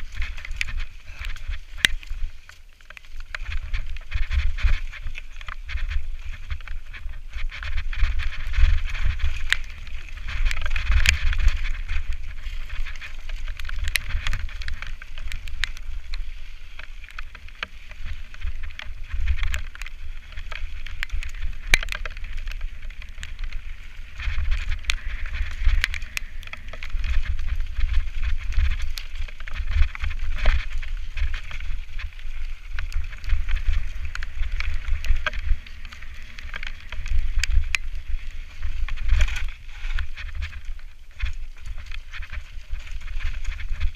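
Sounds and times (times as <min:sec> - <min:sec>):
bike knocking on stones: 0:00.0 - 0:43.9
bike tyres crunching on trail: 0:00.0 - 0:43.9
wind buffeting microphone: 0:03.2 - 0:17.4, 0:18.0 - 0:43.9.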